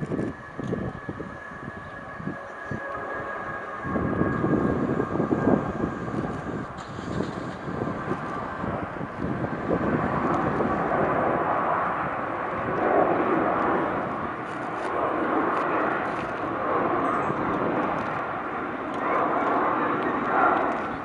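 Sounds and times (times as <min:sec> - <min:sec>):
jet engines climbing: 0:00.0 - 0:21.0.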